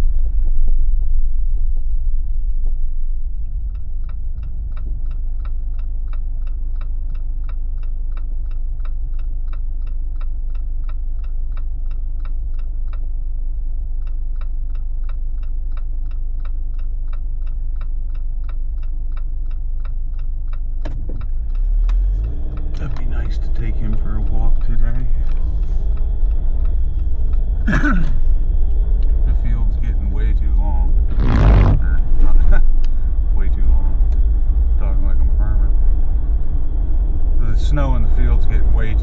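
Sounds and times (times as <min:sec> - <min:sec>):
engine and tyre rumble: 0:00.0 - 0:39.0
turn signal clicking: 0:02.7 - 0:35.0.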